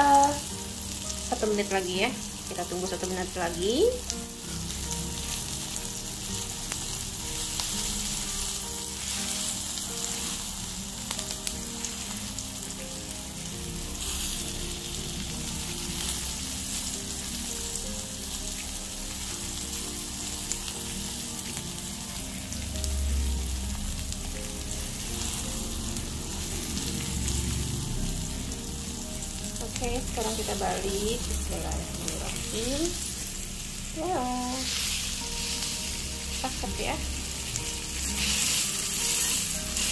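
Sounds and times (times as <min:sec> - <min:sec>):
steak sizzling in a frying pan: 0:00.0 - 0:39.9.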